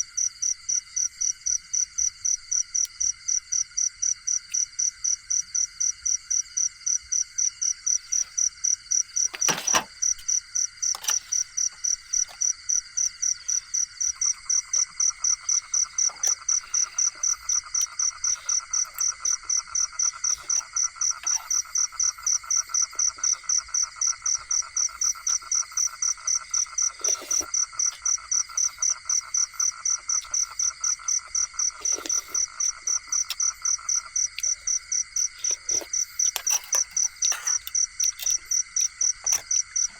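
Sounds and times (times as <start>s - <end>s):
crickets chirping: 0.0s - 39.9s
lower insect or frog chorus: 0.0s - 39.9s.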